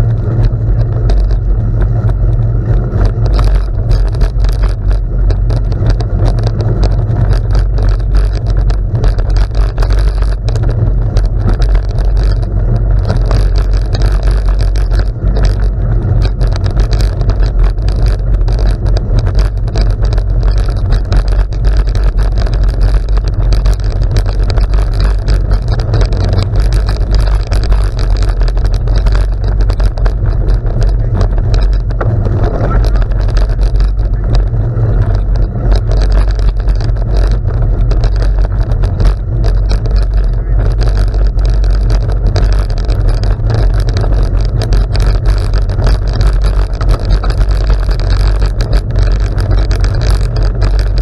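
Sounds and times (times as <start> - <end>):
bicycle tyres on gravel: 0.0 - 51.0
wind rumble on microphone: 0.0 - 51.0.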